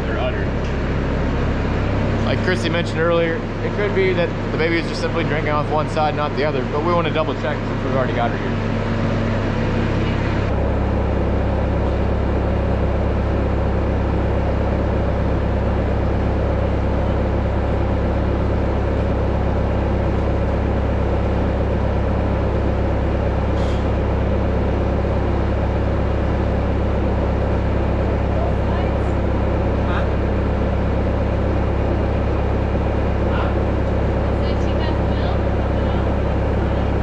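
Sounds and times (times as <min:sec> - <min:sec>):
machine drone: 0:00.0 - 0:37.0.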